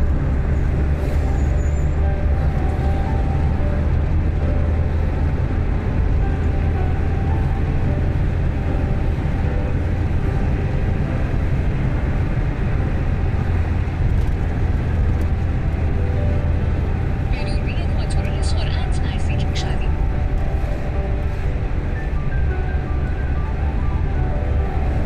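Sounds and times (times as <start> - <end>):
car tyres and engine rumble: 0.0 - 25.0.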